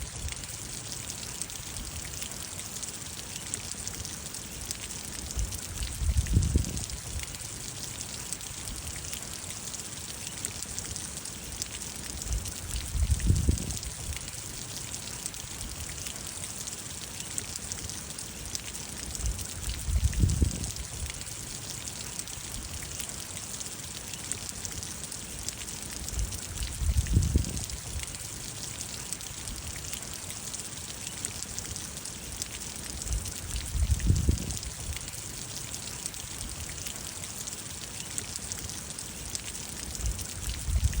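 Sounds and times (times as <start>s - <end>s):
raindrops ticking: 0.0s - 41.0s
steady rain: 0.0s - 41.0s.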